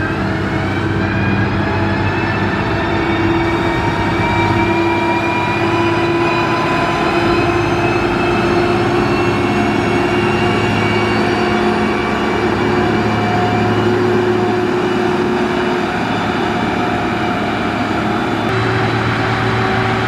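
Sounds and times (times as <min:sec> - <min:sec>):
heavy diesel engine under load: 0:00.0 - 0:20.0.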